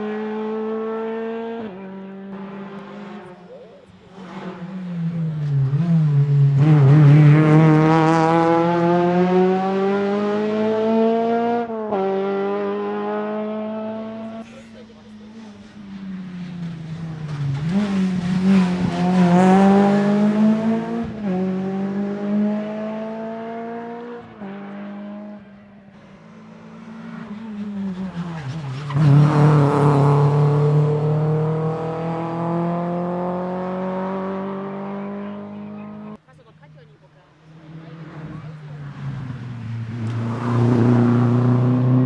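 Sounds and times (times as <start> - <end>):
rally car engine at full throttle: 0.0 - 42.0.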